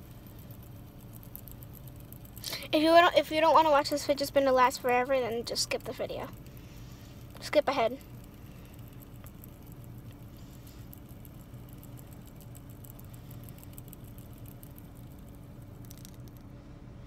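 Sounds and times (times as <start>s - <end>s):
fidget spinner ticking: 0.0s - 16.4s
low hum inside a car: 0.0s - 17.0s.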